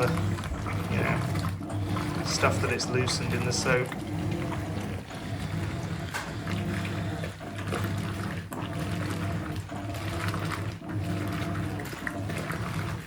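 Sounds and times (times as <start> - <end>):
washing machine motor hum: 0.0 - 13.0
water sloshing: 0.0 - 13.0.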